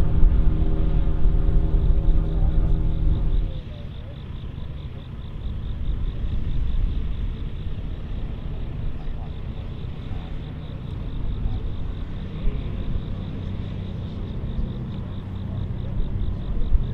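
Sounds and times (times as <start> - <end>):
tractor engine rumble: 0.0 - 16.9.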